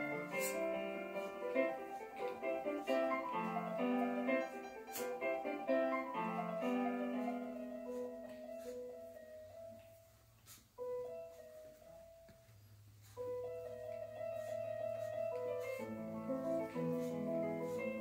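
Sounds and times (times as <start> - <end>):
solo piano playing classical music: 0.0 - 10.2, 10.8 - 18.0.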